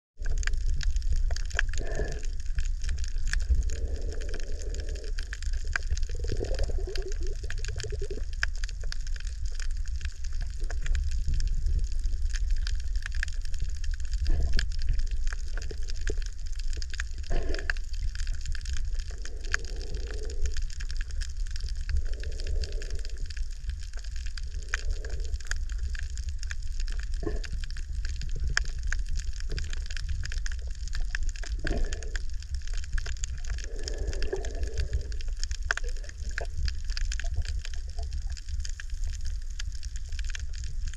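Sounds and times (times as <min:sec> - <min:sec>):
fine crackling of tiny clicks: 0:00.2 - 0:40.9
underwater low rumble: 0:00.2 - 0:40.9.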